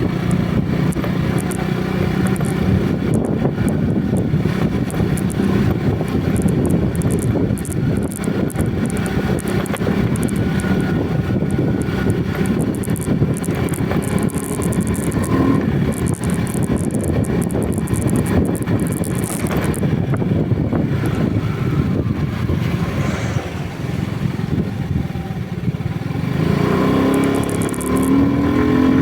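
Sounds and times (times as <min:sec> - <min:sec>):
crackling flutter: 0:00.0 - 0:26.1, 0:27.0 - 0:28.3
road and wind noise: 0:00.0 - 0:29.0
vehicle engine running: 0:00.0 - 0:29.0.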